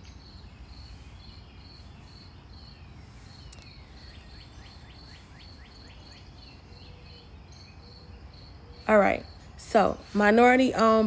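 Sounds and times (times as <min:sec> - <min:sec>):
birds chirping: 0:00.0 - 0:11.0
crickets chirping: 0:00.0 - 0:11.0.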